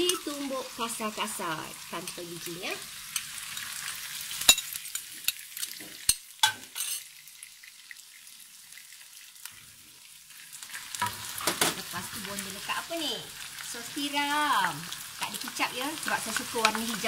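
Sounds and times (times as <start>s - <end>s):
food sizzling in wok: 0.0s - 17.0s.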